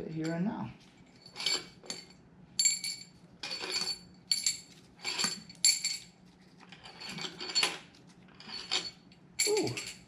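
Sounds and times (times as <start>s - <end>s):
metal tools clinking: 0.0s - 10.0s.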